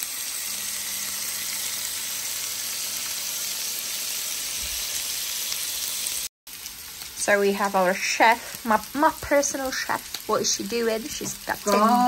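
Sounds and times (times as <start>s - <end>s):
meat sizzling on a grill plate: 0.0s - 12.0s.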